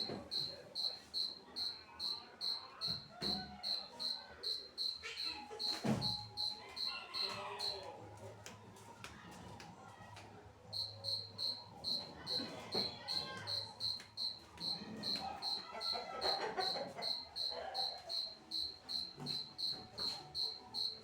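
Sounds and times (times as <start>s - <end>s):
cricket chirping: 0.0s - 7.8s, 10.7s - 21.0s.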